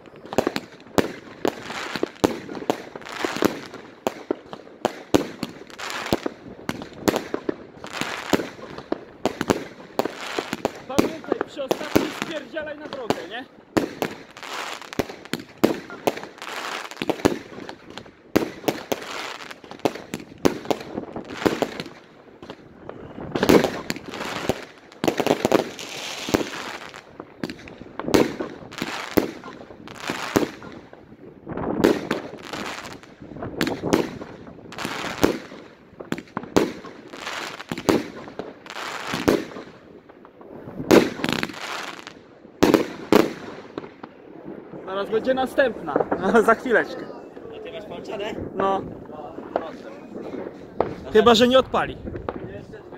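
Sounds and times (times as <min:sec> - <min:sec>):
fireworks cracking: 0:00.0 - 0:52.9.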